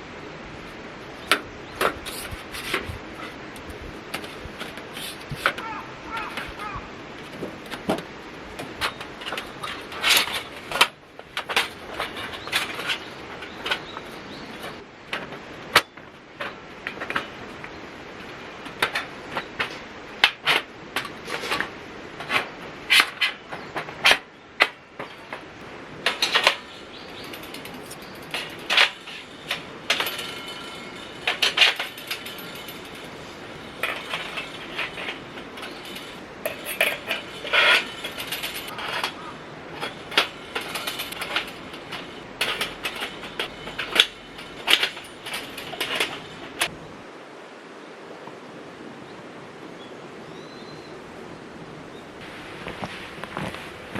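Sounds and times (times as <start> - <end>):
camping gear clinking and knocking: 1.2 - 46.8, 52.2 - 53.9.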